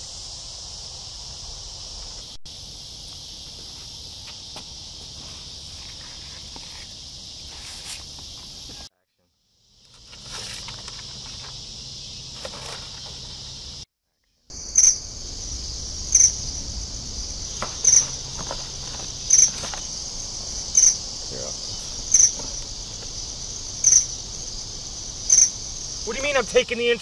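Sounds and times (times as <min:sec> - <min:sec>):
high-pitched insect chorus: 0:00.0 - 0:08.9, 0:09.6 - 0:13.8, 0:14.5 - 0:27.0
loud insect chirp: 0:00.0 - 0:08.9, 0:09.5 - 0:13.9, 0:14.5 - 0:27.0.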